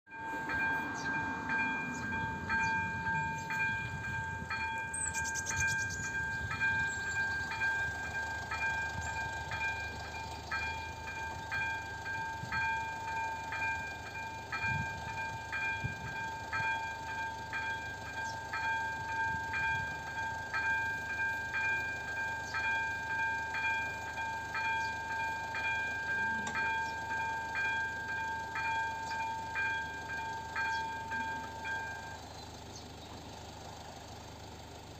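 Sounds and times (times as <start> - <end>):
level crossing warning bell: 0.1 - 34.9.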